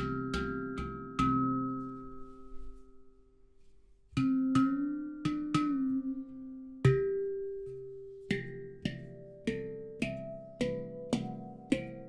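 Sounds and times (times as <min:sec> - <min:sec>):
handpan notes ringing: 0:00.0 - 0:03.1, 0:04.2 - 0:12.0.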